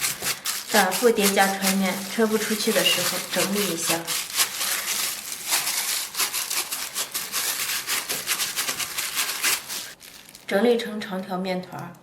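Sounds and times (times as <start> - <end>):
hands stretching sticky dough: 0.0 - 10.5.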